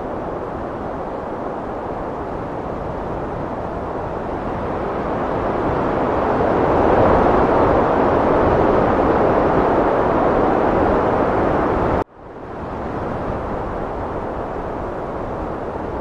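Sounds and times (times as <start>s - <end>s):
heavy wind blowing: 0.0s - 16.0s.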